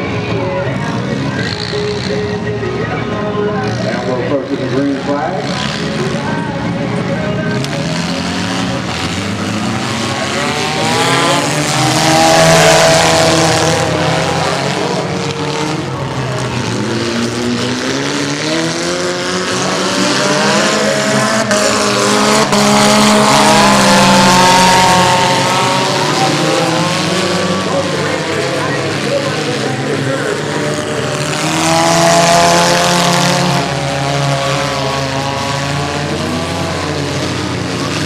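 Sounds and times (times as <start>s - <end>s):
car engines racing: 0.0s - 38.0s.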